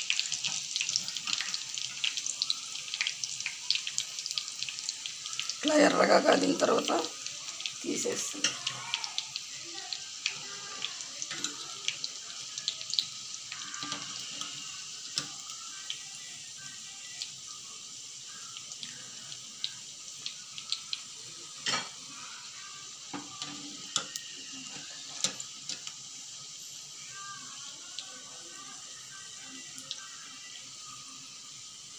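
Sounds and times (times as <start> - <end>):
hot oil sizzling and popping: 0.0 - 31.9.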